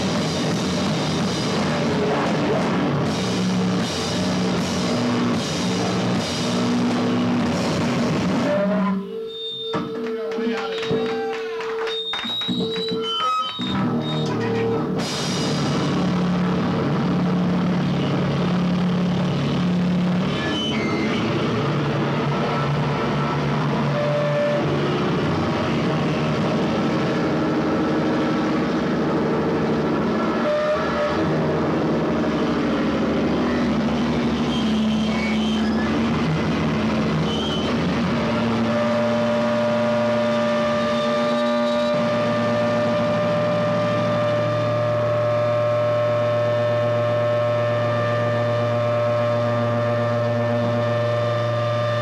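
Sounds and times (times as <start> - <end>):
rock band playing: 0.0 - 8.7, 9.8 - 45.2.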